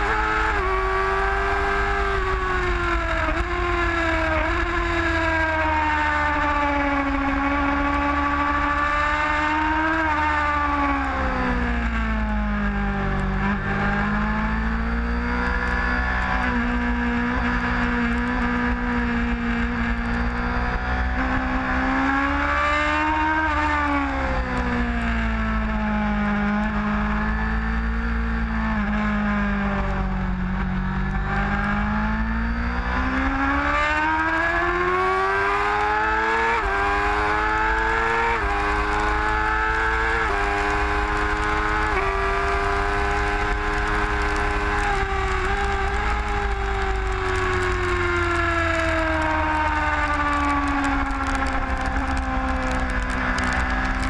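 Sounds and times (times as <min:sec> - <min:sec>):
gear change: 0:00.0 - 0:54.0
motorcycle engine revving: 0:00.0 - 0:54.0.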